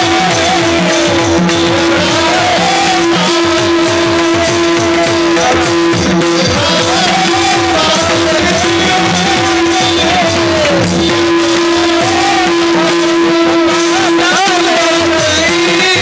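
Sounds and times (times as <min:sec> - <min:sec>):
steady drone: 0:00.0 - 0:14.2
hand drum strokes: 0:00.0 - 0:16.0
small brass hand cymbals: 0:00.0 - 0:16.0
wavering melody: 0:00.0 - 0:16.0.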